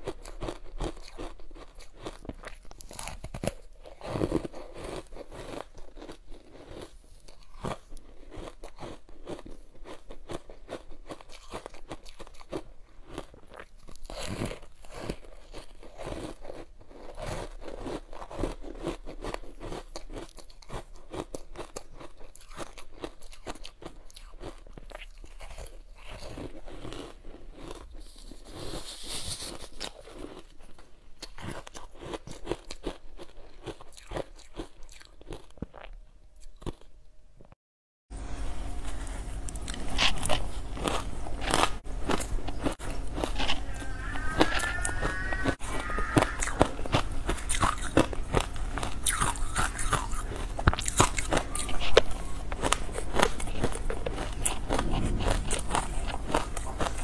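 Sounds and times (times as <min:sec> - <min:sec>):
chewing crunchy ice: 0:00.0 - 0:36.9, 0:39.4 - 0:57.0.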